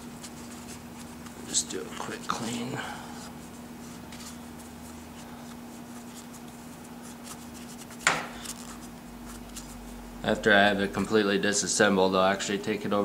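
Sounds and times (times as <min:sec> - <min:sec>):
cloth rag rubbing on metal: 0:00.0 - 0:11.3
steady low hum: 0:00.0 - 0:13.0.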